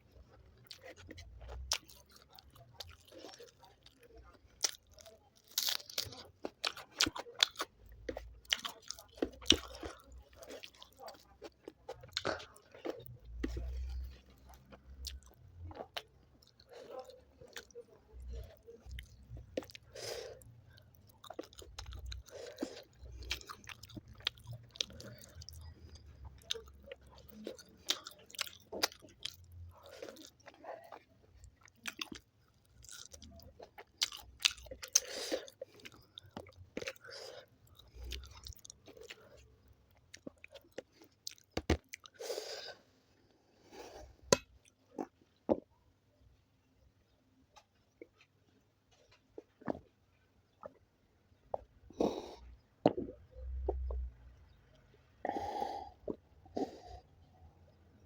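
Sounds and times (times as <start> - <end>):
person chewing food: 0.0 - 42.8, 43.6 - 45.7, 47.5 - 57.3.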